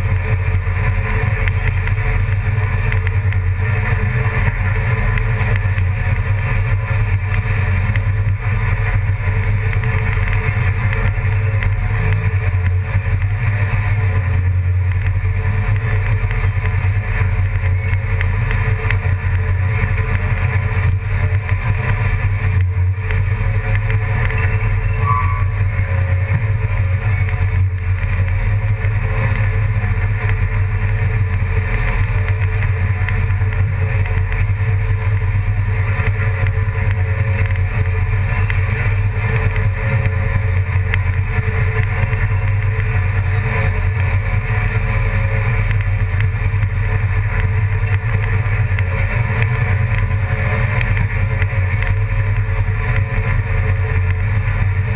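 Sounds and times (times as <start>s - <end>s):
engine drone with low hum: 0.0s - 54.9s.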